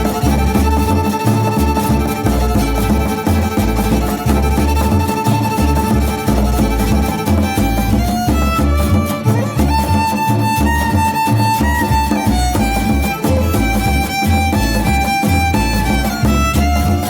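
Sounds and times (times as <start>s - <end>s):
bouncing bass beat: 0.0s - 17.0s
violins playing melody: 0.0s - 17.0s.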